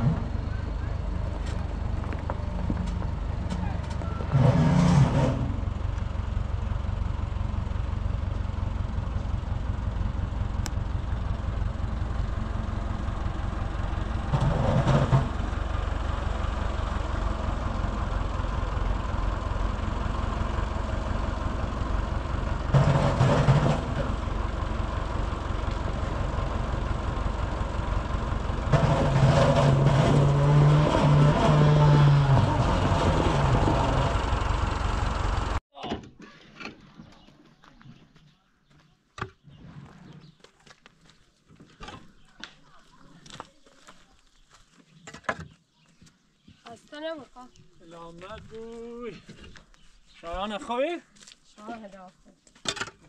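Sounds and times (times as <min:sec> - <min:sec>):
tractor engine rumbling: 0:00.0 - 0:53.0.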